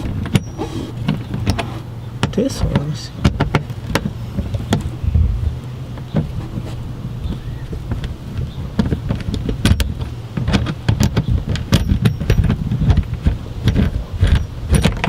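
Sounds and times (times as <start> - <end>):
low handling rumble: 0.0 - 15.0.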